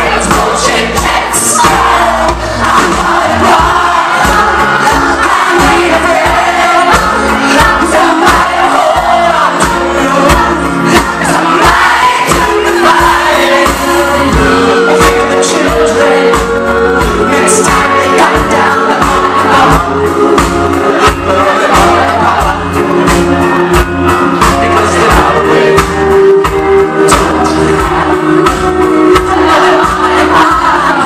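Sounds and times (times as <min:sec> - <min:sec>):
man singing into a microphone: 0:00.0 - 0:23.6, 0:24.2 - 0:28.4
live rock band playing: 0:00.0 - 0:31.0.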